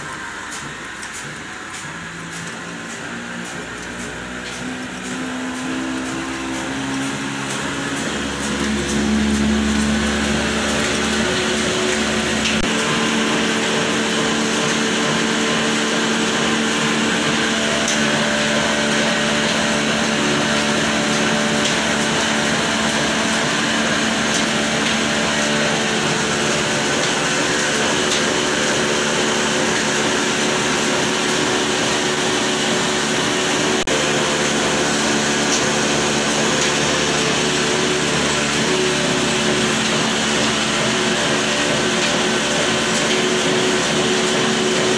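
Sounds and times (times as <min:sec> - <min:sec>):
diesel engine running: 0:00.0 - 0:44.9
flour mill whirring hum: 0:00.0 - 0:44.9.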